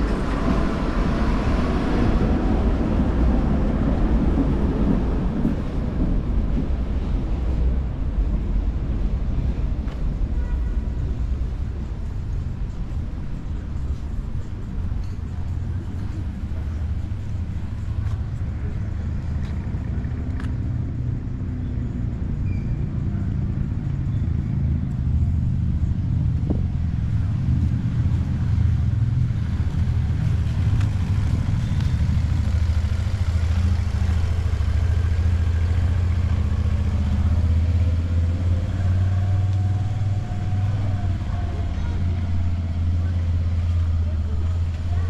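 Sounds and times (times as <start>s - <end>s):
passing cars rumbling: 0.0s - 45.0s.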